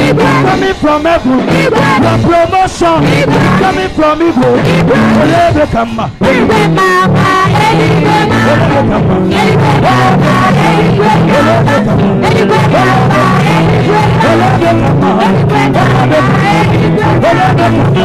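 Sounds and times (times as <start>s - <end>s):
live gospel band instrumental: 0.0s - 18.0s.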